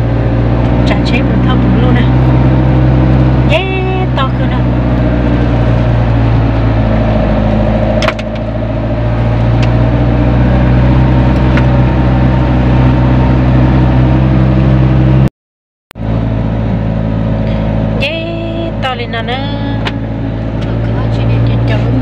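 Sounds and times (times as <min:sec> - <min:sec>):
car engine running: 0:00.0 - 0:15.3, 0:16.0 - 0:22.0
road noise inside car: 0:00.0 - 0:15.3, 0:16.0 - 0:22.0.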